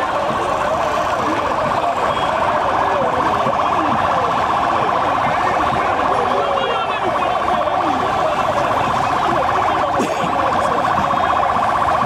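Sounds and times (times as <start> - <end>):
crowd shouting: 0.0 - 12.0
police siren warbling: 0.0 - 12.0.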